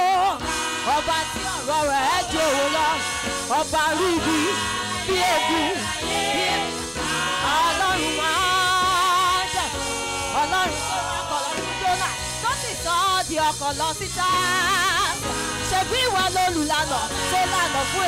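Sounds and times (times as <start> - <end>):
choir singing gospel: 0.0 - 18.0
lead singer holding long notes: 0.0 - 18.0.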